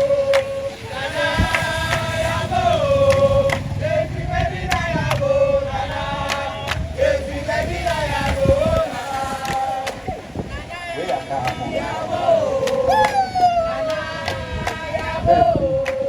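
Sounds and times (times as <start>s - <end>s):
crowd singing in unison: 0.0s - 16.0s.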